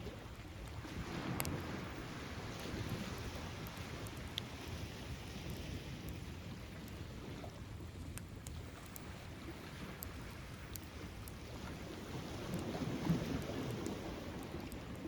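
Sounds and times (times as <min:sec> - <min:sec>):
wind: 0:00.0 - 0:15.0
bonfire crackling and popping: 0:00.6 - 0:15.0.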